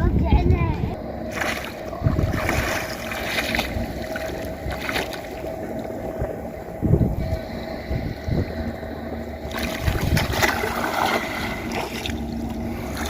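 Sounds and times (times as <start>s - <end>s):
steady hum: 0.0s - 13.0s
wind buffeting microphone: 0.0s - 13.0s.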